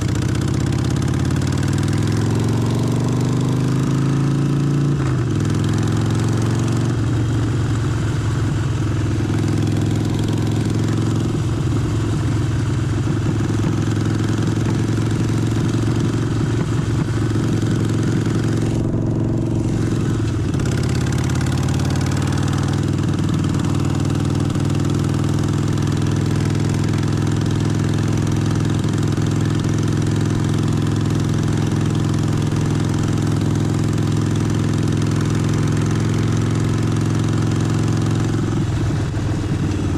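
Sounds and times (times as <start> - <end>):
motorcycle engine idling: 0.0 - 3.8, 5.3 - 39.9.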